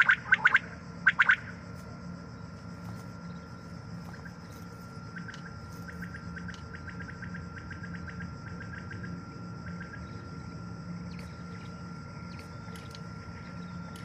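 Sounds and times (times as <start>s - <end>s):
insect chirping: 0.0s - 14.0s
low hum: 0.0s - 14.0s
thin steady high tone: 0.0s - 14.0s.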